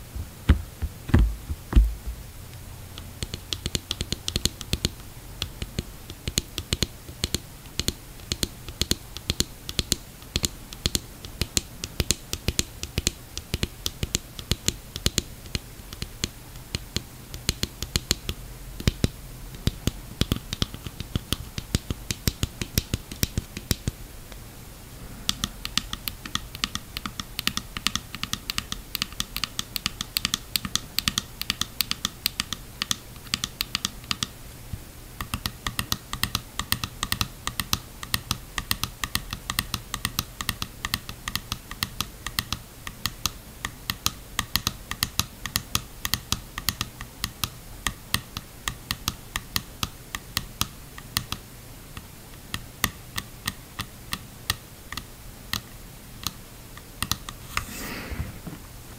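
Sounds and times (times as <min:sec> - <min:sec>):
fingernails tapping on plastic mask: 0:00.0 - 0:02.2, 0:03.0 - 0:24.0, 0:25.4 - 0:34.3, 0:35.2 - 0:51.4, 0:52.0 - 0:57.4.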